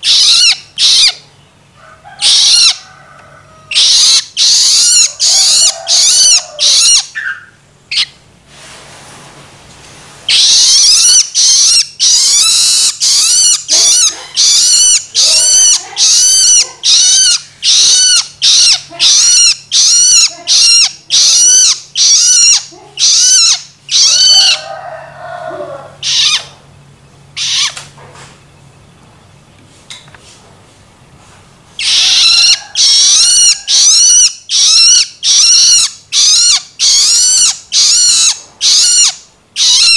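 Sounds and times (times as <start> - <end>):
bird harsh begging calls: 0.0 - 2.9, 3.6 - 8.2, 10.3 - 26.6, 27.3 - 27.8, 31.8 - 39.9.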